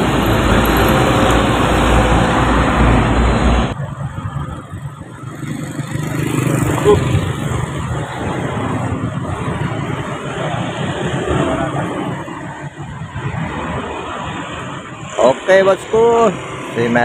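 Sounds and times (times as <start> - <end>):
street traffic with motorcycles: 0.0 - 17.0
truck diesel engine passing: 0.0 - 17.0.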